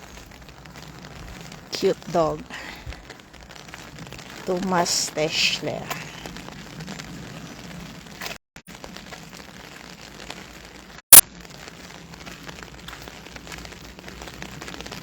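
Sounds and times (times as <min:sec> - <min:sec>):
rain hissing and pattering: 0:00.0 - 0:15.0.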